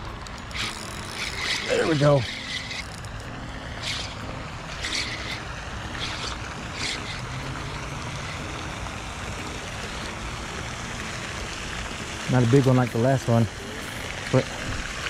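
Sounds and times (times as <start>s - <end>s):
water noise: 0.0s - 15.0s.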